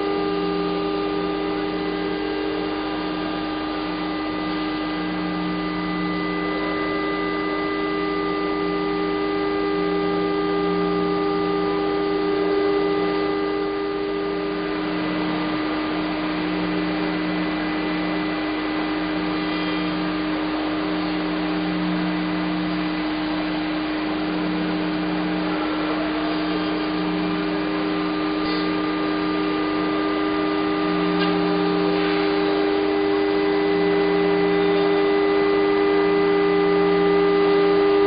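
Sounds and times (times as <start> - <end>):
machine hum: 0.0 - 38.0
steady tones: 0.0 - 38.0.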